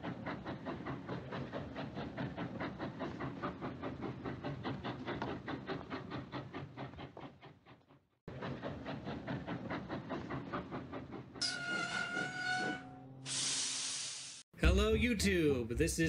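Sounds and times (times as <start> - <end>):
steam locomotive chuffing: 0.0 - 14.2.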